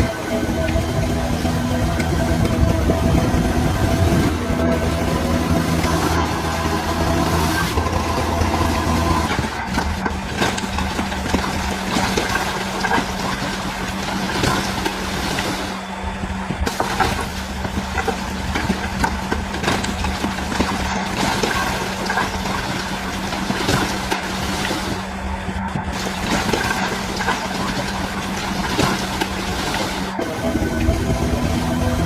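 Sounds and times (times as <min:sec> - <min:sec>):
bulldozer diesel engine running: 0:00.0 - 0:32.0
machine clanks and rattles: 0:00.0 - 0:32.0.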